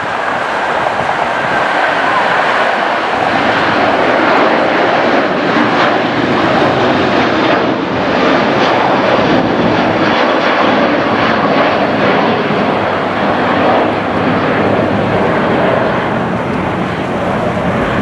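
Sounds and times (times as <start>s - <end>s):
airplane engines running: 0.0s - 18.0s.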